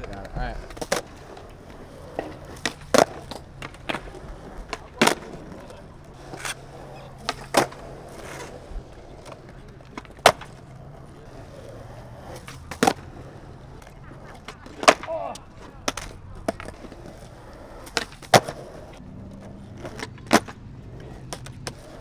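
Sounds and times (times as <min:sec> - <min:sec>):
skateboard clacks: 0:00.0 - 0:22.0
skateboard wheels rolling: 0:00.0 - 0:22.0.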